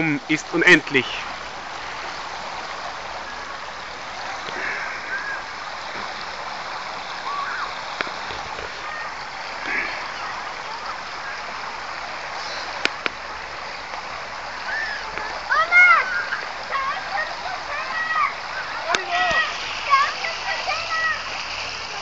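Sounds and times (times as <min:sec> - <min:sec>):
faint distant voices: 0:00.0 - 0:22.0
steady rushing outdoor noise: 0:00.0 - 0:22.0.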